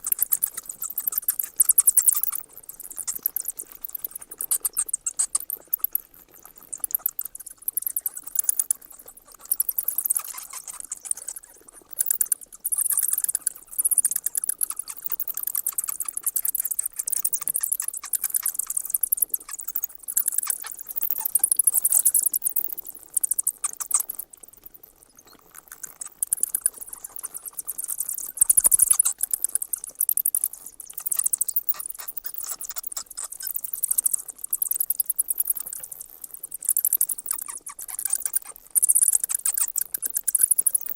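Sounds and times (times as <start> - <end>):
bats squeaking: 0.0 - 40.9.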